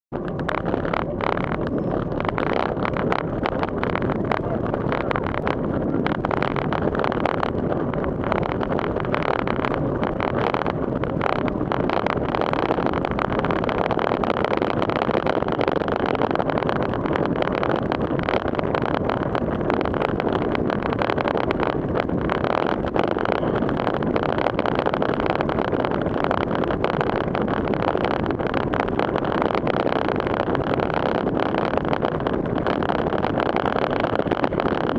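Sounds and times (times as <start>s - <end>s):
wind on microphone: 0.1s - 34.9s
bicycle tyres through water: 0.2s - 34.9s.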